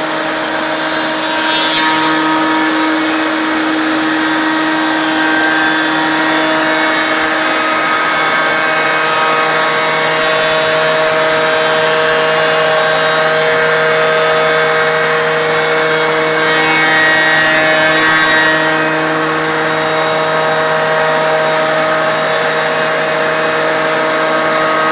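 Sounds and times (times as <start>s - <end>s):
cutter hissing through wood: 0.0s - 24.9s
router spindle whine: 0.0s - 24.9s.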